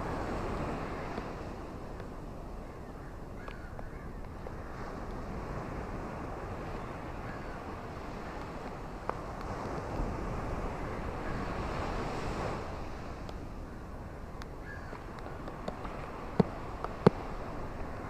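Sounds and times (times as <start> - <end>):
ocean waves washing ashore: 0.0 - 18.0.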